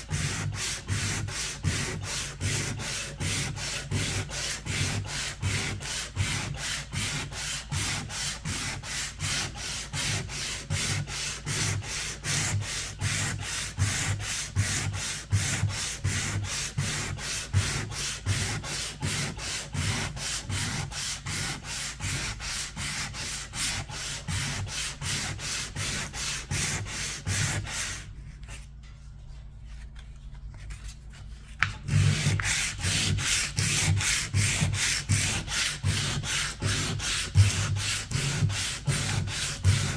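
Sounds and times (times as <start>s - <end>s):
sandpaper rubbing back and forth: 0.0s - 28.4s, 31.8s - 39.9s.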